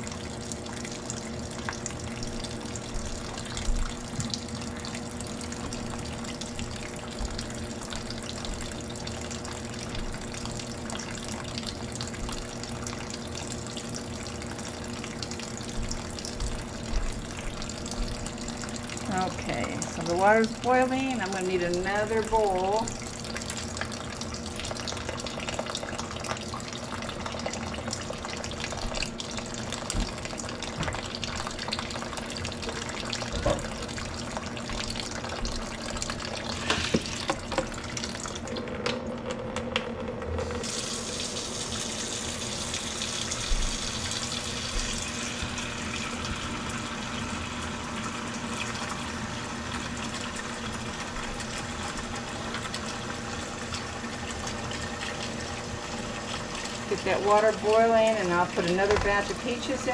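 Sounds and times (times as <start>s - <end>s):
faucet running into a sink: 0.0s - 59.9s
water stream filling plastic bowl: 0.0s - 59.9s.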